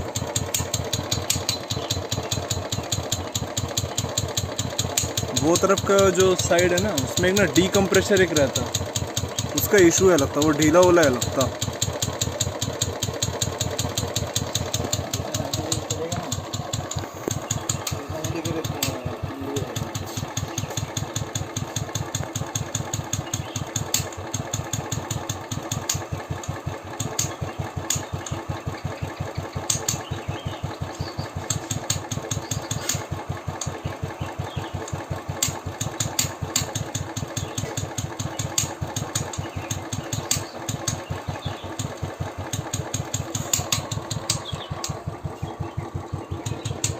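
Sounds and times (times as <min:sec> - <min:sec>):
sharp engine ticks: 0:00.0 - 0:46.9
single-cylinder engine idling: 0:00.0 - 0:46.9.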